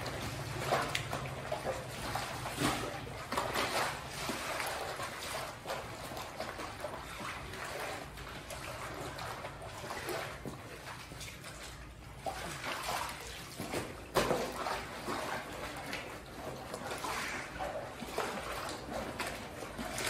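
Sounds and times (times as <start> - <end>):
water sloshing and trickling: 0.0 - 20.0.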